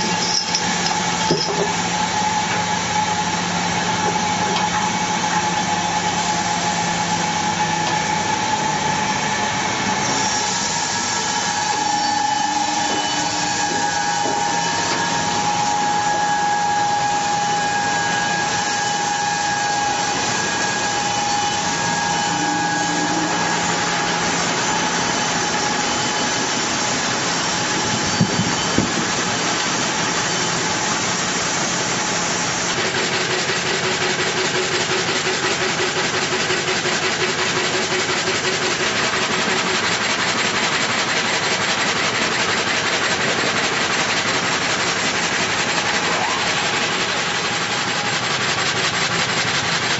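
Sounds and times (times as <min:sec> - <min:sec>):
saw whining and humming: 0:00.0 - 0:49.9.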